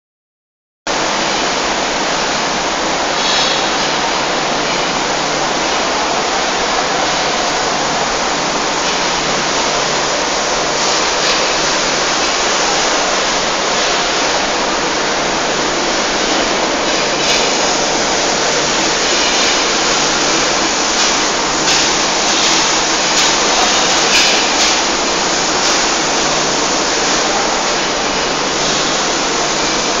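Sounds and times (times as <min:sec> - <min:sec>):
paint circulation system rushing: 0:00.9 - 0:30.0.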